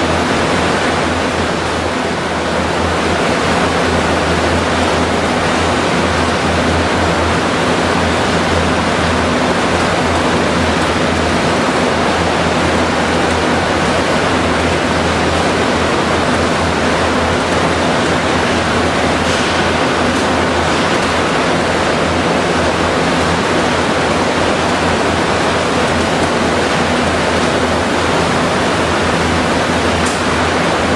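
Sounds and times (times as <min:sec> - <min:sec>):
machinery and ventilation roar: 0:00.0 - 0:30.9.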